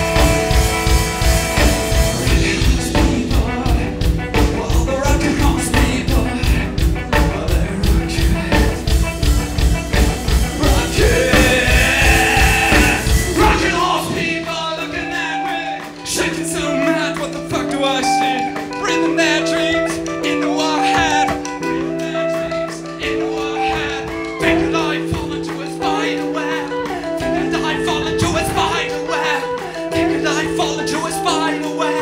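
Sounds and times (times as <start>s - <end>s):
electric guitars playing: 0.0s - 32.0s
person singing: 0.0s - 32.0s
rock band playing live: 0.0s - 32.0s.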